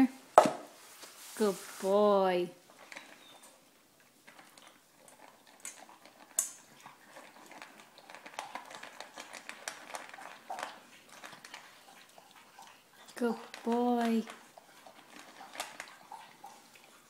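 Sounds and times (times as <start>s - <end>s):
dog crunching dry food: 2.6s - 17.0s.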